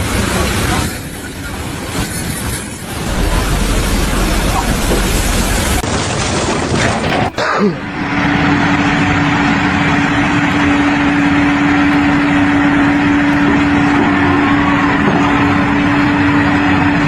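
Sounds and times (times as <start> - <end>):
loud rushing noise: 0.0 - 17.0
machine engine humming: 0.0 - 17.0.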